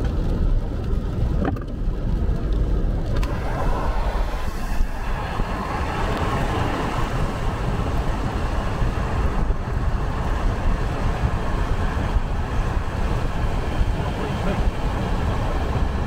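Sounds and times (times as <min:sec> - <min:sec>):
car road noise rumble: 0:00.0 - 0:16.0
tyre hiss on wet road: 0:03.1 - 0:16.0.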